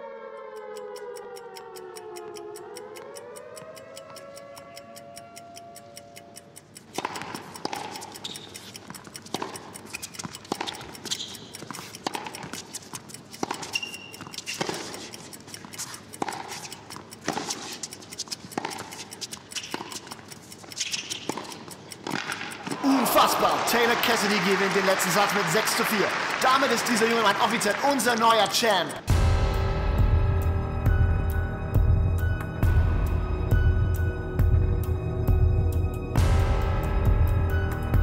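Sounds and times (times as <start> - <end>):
sharp ticks and clicks: 0.2 - 38.0.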